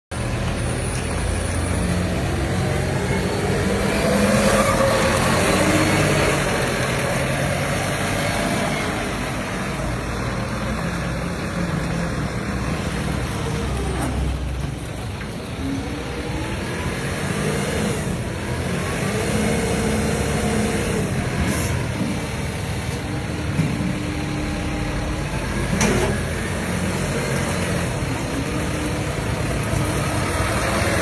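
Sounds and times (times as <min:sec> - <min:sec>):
tractor engine running: 0:00.1 - 0:31.0.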